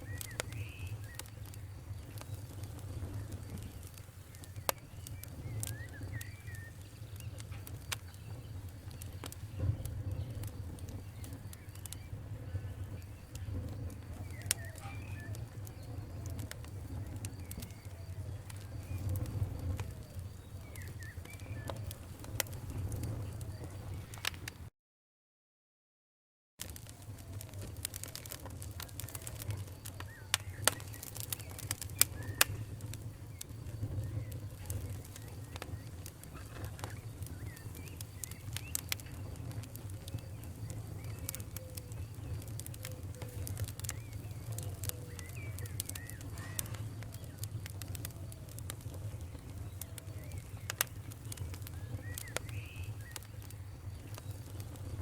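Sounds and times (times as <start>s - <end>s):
sharp pops and snaps: 0.0s - 12.1s, 12.7s - 24.6s, 26.6s - 55.0s
fire crackling: 0.0s - 24.7s, 26.6s - 55.0s.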